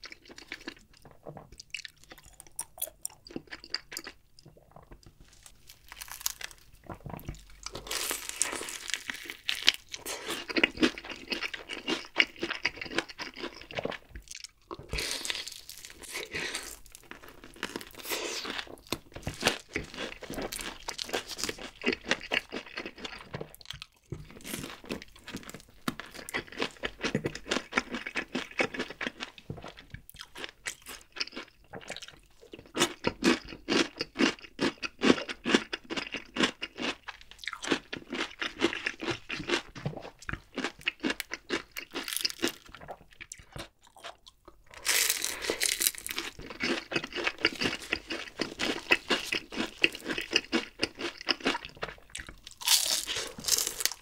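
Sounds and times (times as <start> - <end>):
crunching and chewing fried chicken: 0.0 - 54.0.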